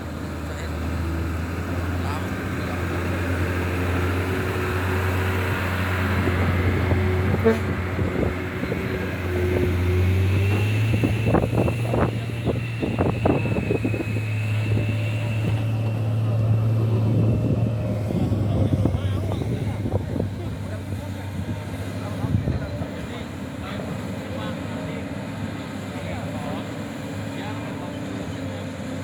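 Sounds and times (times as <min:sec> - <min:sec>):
excavator diesel engine: 0:00.0 - 0:29.0
high hydraulic whine: 0:00.1 - 0:29.0.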